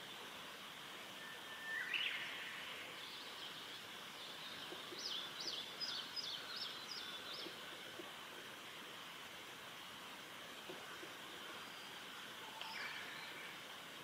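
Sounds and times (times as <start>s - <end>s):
steady high hiss: 0.0s - 14.0s
wild birds singing: 1.0s - 14.0s.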